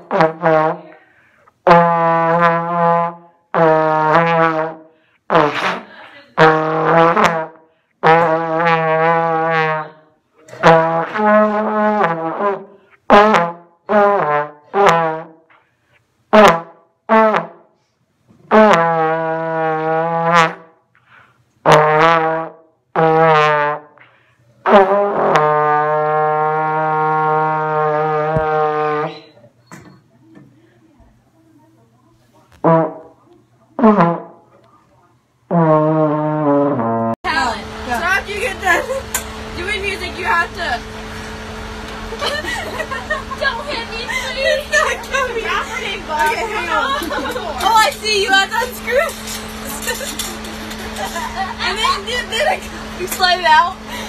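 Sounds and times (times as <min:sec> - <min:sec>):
trombone playing a tune: 0:00.0 - 0:15.6, 0:16.3 - 0:17.7, 0:18.5 - 0:20.8, 0:21.6 - 0:29.3, 0:32.6 - 0:34.6, 0:35.5 - 0:53.0.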